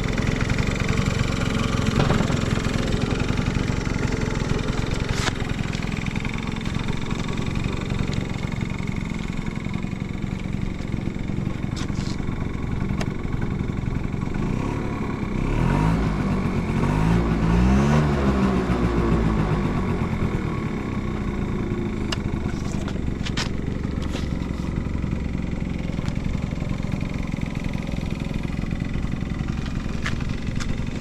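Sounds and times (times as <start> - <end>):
scooter engine idling and revving: 0.0 - 31.0.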